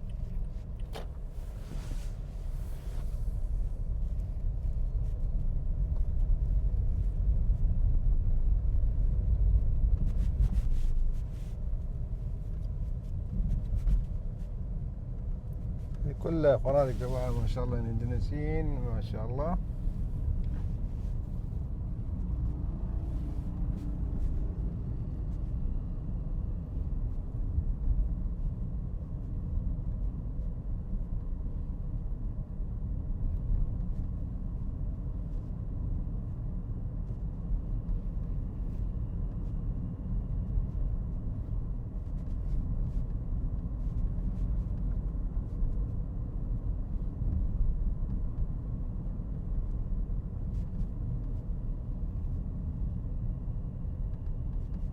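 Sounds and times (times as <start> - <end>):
road and vehicle noise rumble: 0.0 - 54.9.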